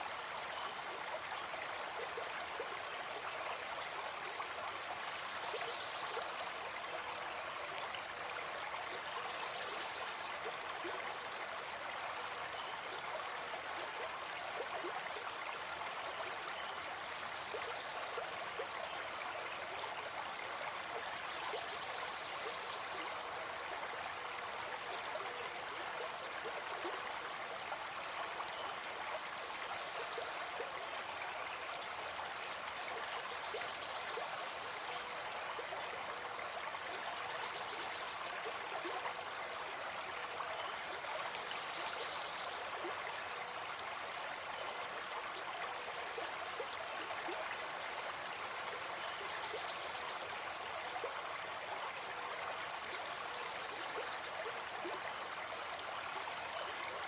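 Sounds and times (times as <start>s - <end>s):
forest stream flowing: 0.0s - 57.0s.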